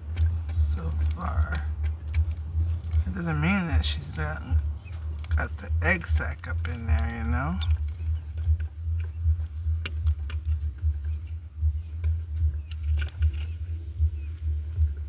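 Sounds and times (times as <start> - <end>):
light ticks and taps: 0.0 - 15.0
steady low hum: 0.0 - 15.0.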